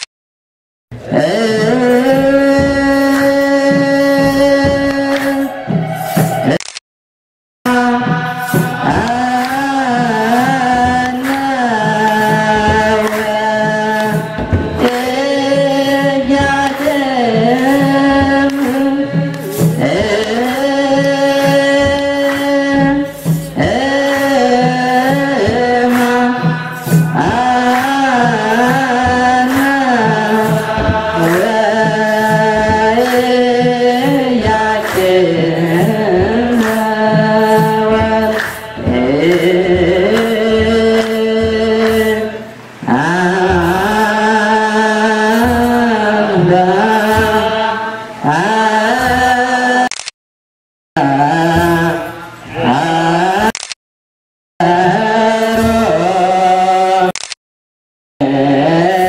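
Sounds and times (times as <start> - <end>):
sharp percussion strikes: 0.9 - 6.6, 7.7 - 49.8
men chanting together: 1.0 - 6.6, 7.7 - 49.9, 51.0 - 53.6, 54.6 - 57.2, 58.2 - 59.0.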